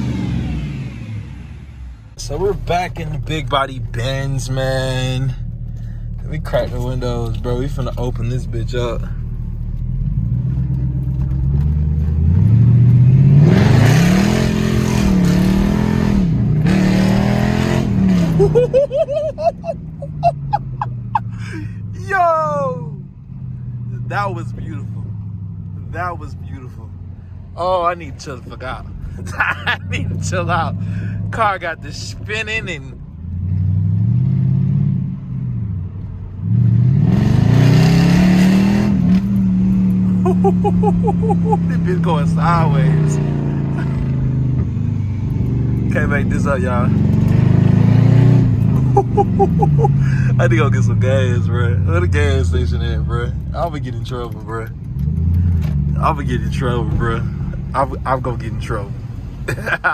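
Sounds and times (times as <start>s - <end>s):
car engine with loud open exhaust: 0.0s - 59.9s.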